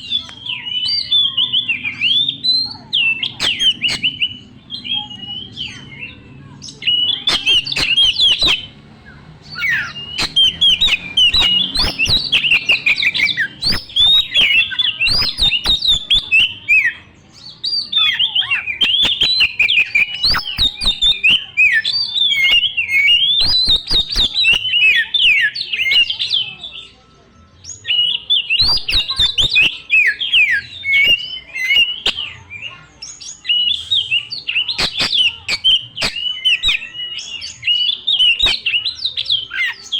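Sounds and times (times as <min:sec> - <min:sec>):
bird singing whistled phrases: 0:00.0 - 0:27.0, 0:27.6 - 0:39.9.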